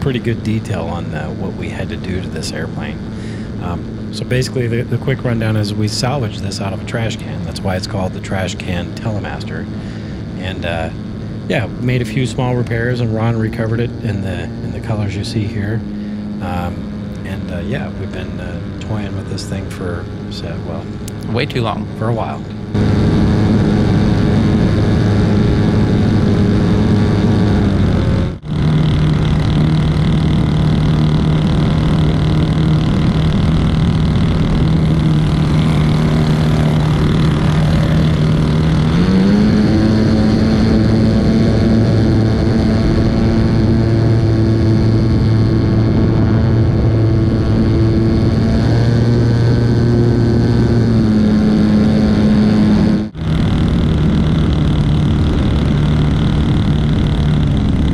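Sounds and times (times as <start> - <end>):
model airplane engine: 0.0 - 57.9.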